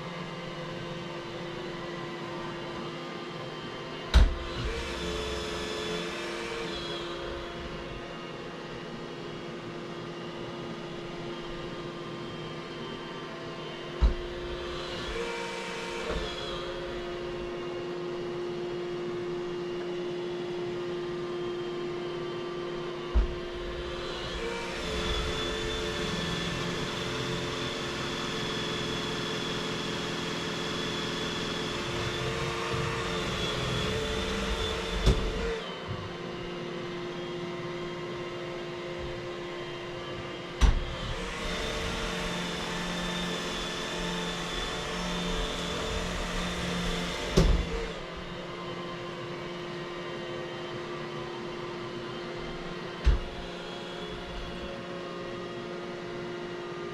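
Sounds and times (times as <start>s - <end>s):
vacuum cleaner humming: 0.0s - 56.9s.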